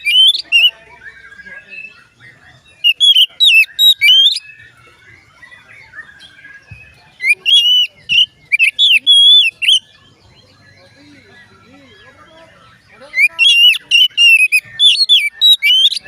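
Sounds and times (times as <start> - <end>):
bird singing whistled notes: 0.0 - 16.0
faint bird chirping: 0.0 - 16.0.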